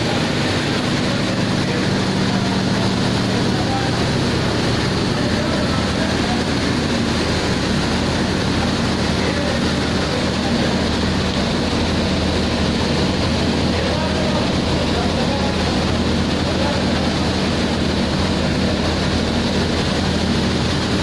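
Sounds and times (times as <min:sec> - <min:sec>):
grain cleaning machinery drone: 0:00.0 - 0:21.0.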